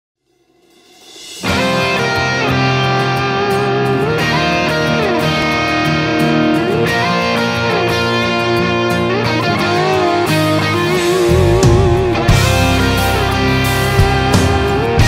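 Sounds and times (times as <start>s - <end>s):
country rock electric guitar: 1.4s - 15.0s.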